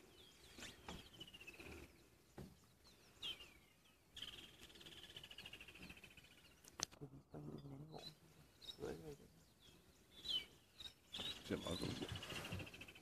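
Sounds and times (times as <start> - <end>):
bird chirp: 0.0 - 13.0.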